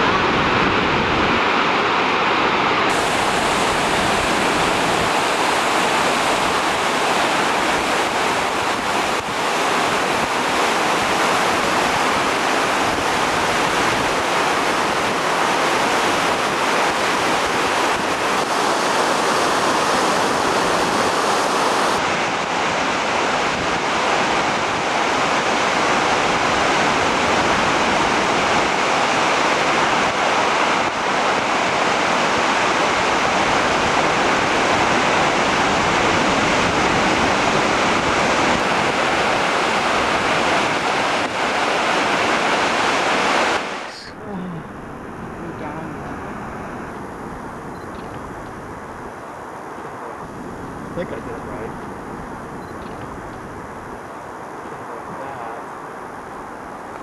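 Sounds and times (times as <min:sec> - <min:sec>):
rushing falling water: 0:00.0 - 0:57.0.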